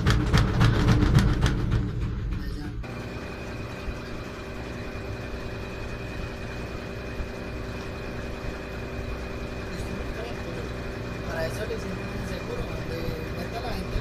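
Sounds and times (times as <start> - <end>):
high constant whine: 0.0 - 14.0
washing machine spinning: 0.0 - 14.0.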